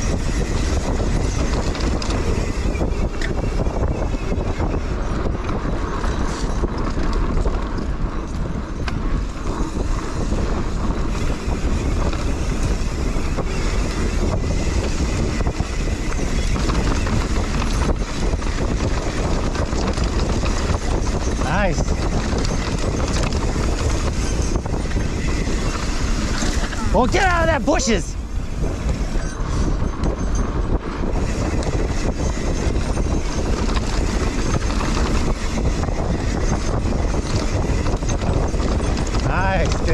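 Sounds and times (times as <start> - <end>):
bike tyres on dirt trail: 0.0 - 39.9
wind rushing over microphone: 0.0 - 39.9.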